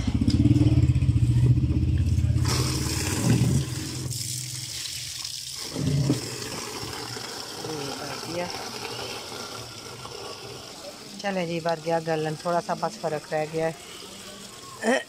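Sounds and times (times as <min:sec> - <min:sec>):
water running from a tap: 0:02.4 - 0:15.0.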